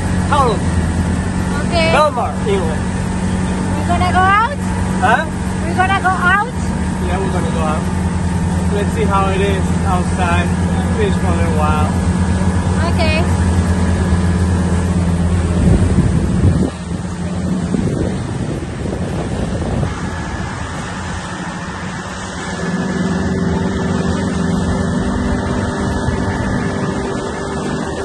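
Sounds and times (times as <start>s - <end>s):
boat engine running: 0.0s - 28.0s
wind and water rushing: 0.0s - 28.0s.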